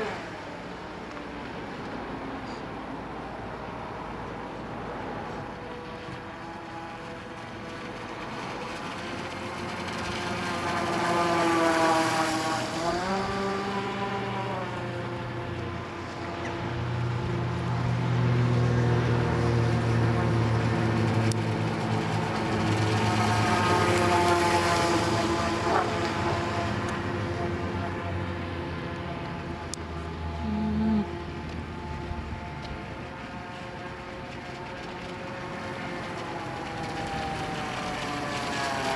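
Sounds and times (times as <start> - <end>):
model boat motor whine: 0.0 - 38.9.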